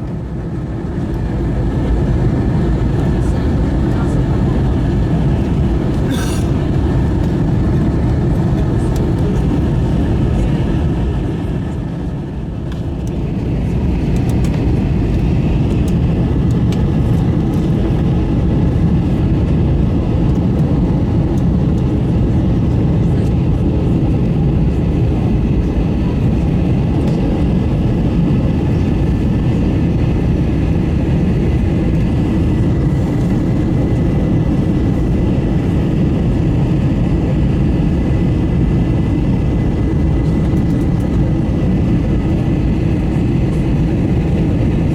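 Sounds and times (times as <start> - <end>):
airplane cabin engine rumble: 0.0 - 44.9.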